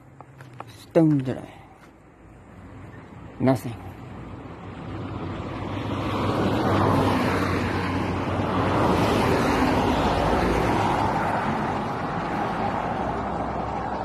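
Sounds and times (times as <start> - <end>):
cars driving past: 1.4 - 14.0.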